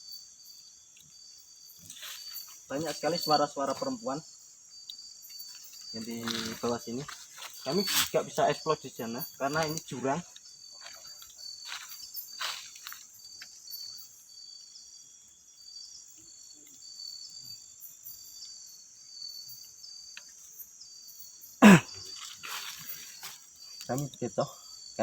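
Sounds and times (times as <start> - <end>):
crickets chirping: 0.0 - 25.0
high-pitched insect drone: 0.0 - 25.0.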